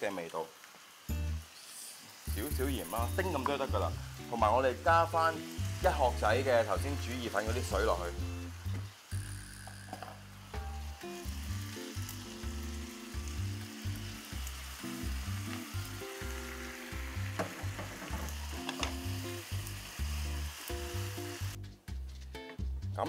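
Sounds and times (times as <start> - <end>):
spaghetti sizzling in a frying pan: 0.0 - 21.6
background music with bass line: 2.3 - 23.0.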